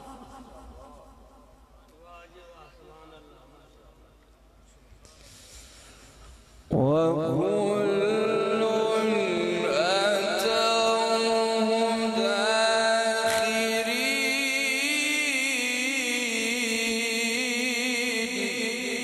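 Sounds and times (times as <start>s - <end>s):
man chanting through microphone: 0.0s - 4.2s, 6.6s - 19.0s.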